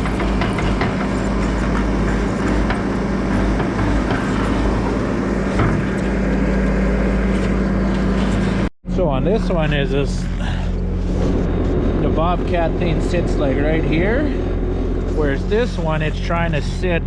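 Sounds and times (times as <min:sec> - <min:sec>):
engine running low drone: 0:00.0 - 0:17.0.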